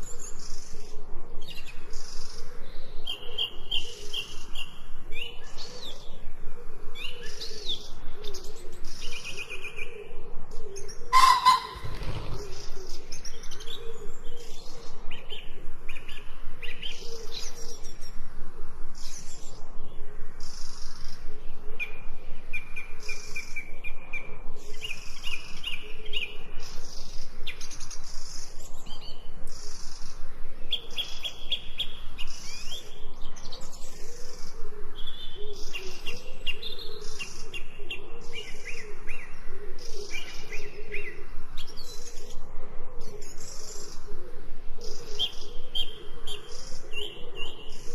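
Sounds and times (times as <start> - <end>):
birds singing: 0.0 - 18.3, 18.9 - 47.9.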